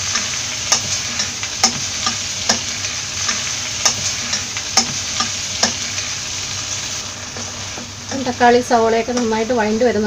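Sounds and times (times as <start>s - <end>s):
onions and tomatoes sizzling in oil: 0.0s - 10.0s.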